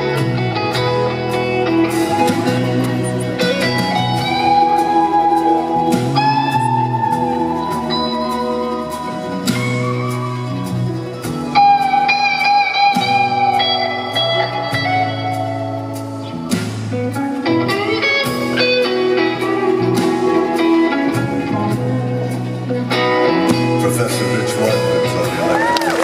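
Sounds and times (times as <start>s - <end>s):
bass line: 0.0s - 26.0s
guitar melody: 0.0s - 26.0s.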